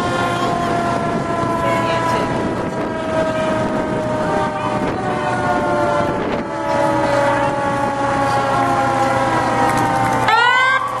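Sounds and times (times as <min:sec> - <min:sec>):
fire engine air horns: 0:00.0 - 0:11.0.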